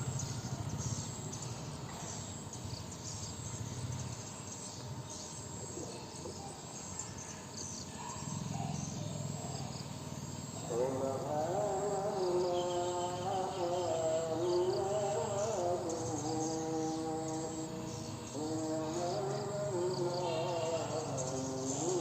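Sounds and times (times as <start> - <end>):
distant call to prayer: 0.0 - 22.0.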